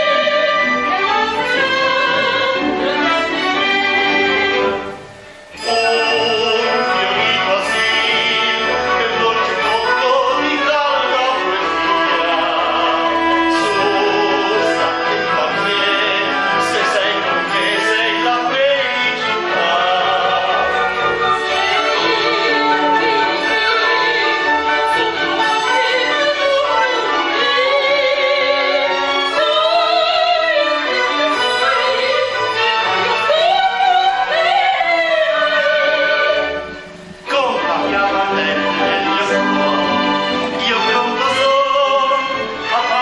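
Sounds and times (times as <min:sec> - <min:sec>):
orchestra playing operetta music: 0:00.0 - 0:43.0
people singing: 0:05.6 - 0:43.0.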